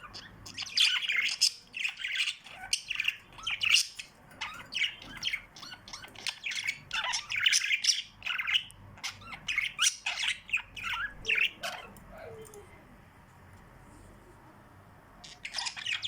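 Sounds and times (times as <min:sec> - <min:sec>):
small birds chirping and squawking: 0:00.0 - 0:12.8, 0:15.2 - 0:16.0.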